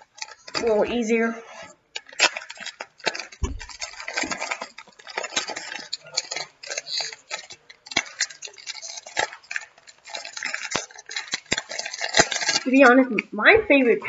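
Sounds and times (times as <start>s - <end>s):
plastic wrapper crinkling and tearing: 0.0s - 1.2s, 1.9s - 13.3s.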